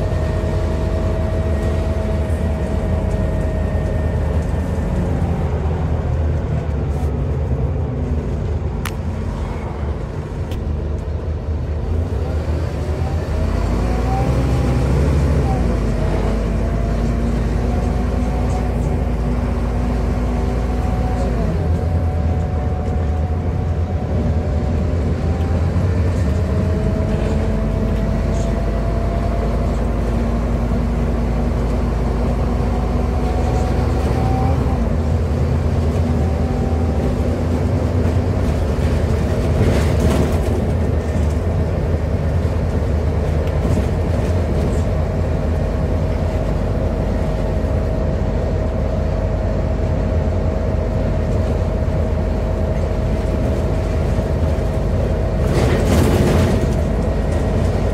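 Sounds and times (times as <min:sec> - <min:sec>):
bus diesel engine rumble: 0:00.0 - 0:57.9.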